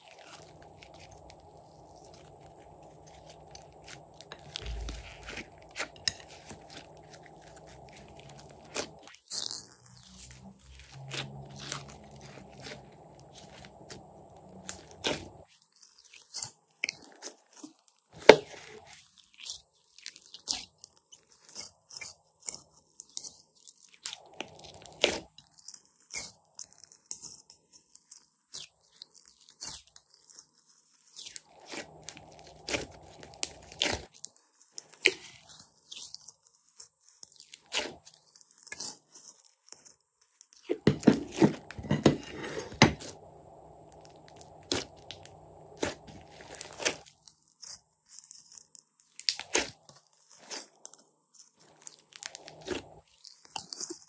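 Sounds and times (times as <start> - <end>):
slime crackling and squishing: 0.0 - 54.0.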